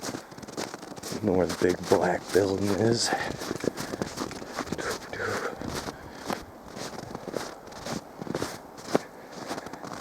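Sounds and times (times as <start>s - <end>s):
footsteps crunching in snow: 0.0s - 10.0s.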